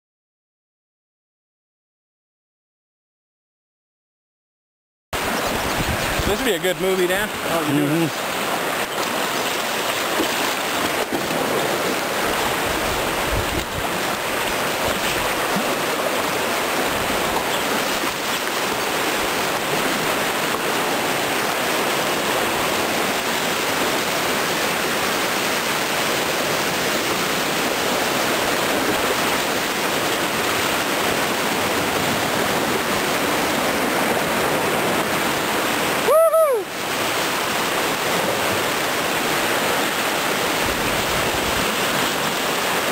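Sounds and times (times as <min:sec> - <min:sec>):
whitewater rapids rushing: 0:05.2 - 0:42.9.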